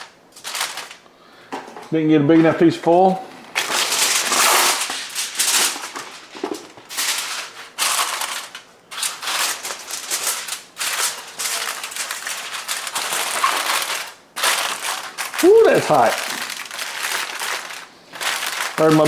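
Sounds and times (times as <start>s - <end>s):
kitchen foil crinkling: 0.0s - 1.0s, 3.5s - 19.0s.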